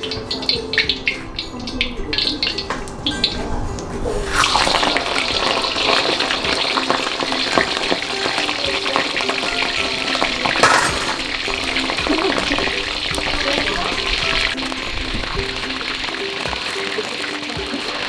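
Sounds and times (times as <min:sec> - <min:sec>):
chicken frying in hot oil: 0:00.0 - 0:03.5, 0:04.1 - 0:18.0.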